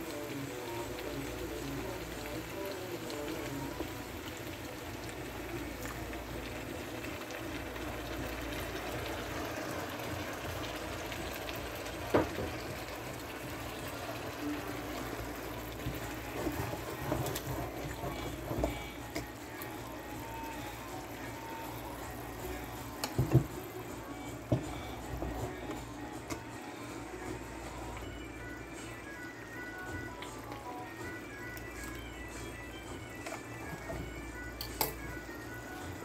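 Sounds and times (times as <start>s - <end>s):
food sizzling in a pan: 0.0s - 36.0s.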